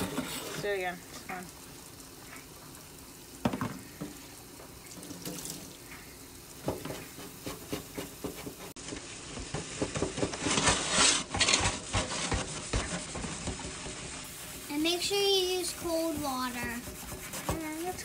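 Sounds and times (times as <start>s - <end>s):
sponge scrubbing a metal pot: 0.0s - 1.4s, 4.9s - 18.0s
tap water running: 0.0s - 18.0s.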